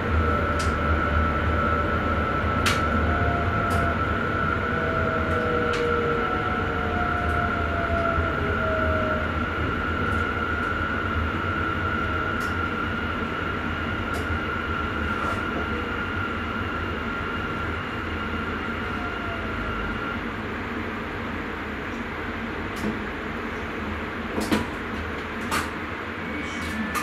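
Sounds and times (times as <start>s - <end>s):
high-pitched whine: 0.0s - 20.7s, 25.8s - 27.0s
train low rumble: 0.0s - 27.0s.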